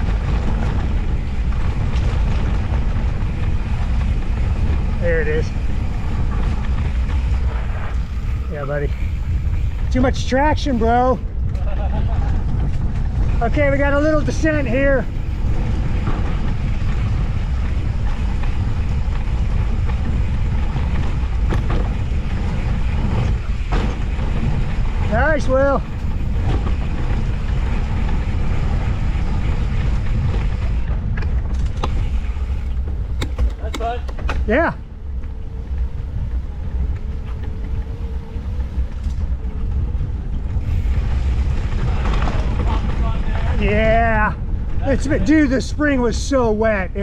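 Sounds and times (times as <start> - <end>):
wheels rolling on trail: 0.0 - 47.0
wind rumble on microphone: 0.0 - 47.0.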